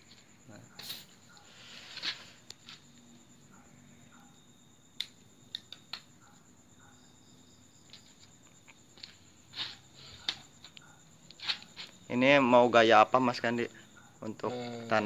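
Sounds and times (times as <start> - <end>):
faint cricket trill: 0.0 - 15.0.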